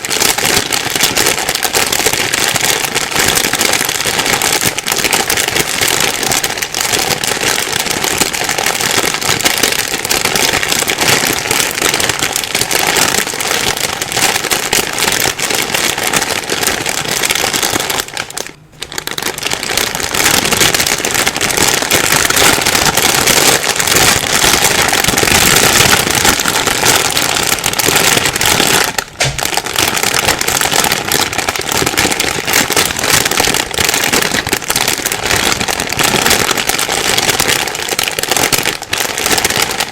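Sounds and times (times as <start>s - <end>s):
plastic bag crumpling: 0.0s - 39.9s.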